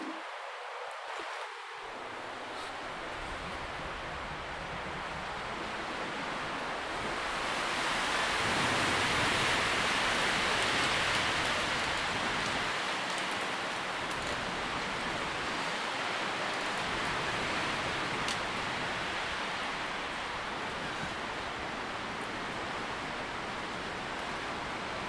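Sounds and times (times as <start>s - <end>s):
wind rustling leaves: 0.0s - 25.0s.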